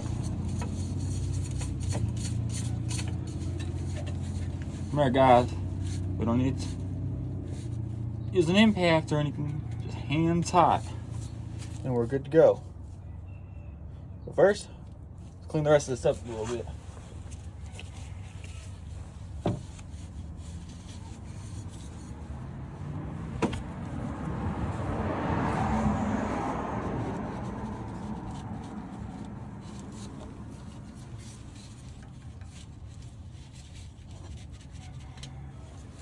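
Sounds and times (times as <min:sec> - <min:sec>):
vehicle passing: 0:00.0 - 0:36.0.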